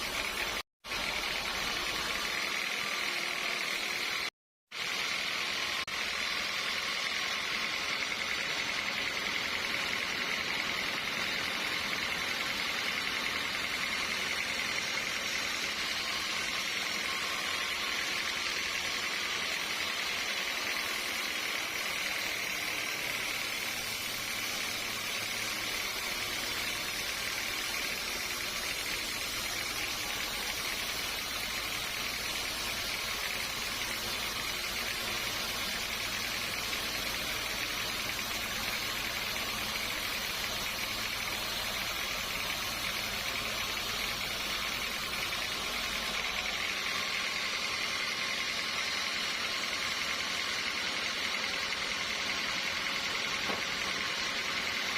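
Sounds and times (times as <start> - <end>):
sawmill saw running: 0.0 - 54.9.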